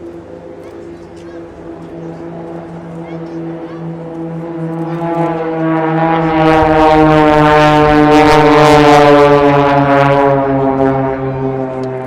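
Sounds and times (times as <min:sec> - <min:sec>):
propeller aircraft droning: 0:00.0 - 0:12.0.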